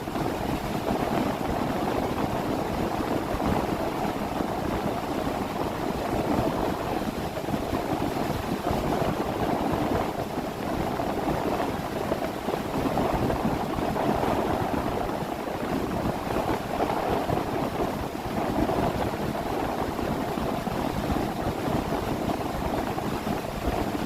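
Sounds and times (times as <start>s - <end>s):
water rushing along a hull: 0.0s - 24.0s
wind on microphone: 0.0s - 24.0s.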